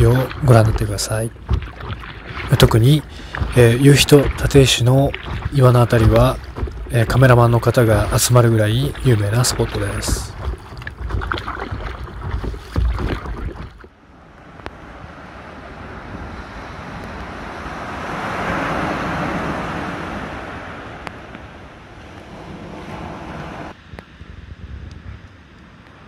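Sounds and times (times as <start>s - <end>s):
waves breaking on beach: 0.0s - 23.8s
wind on microphone: 0.0s - 26.0s.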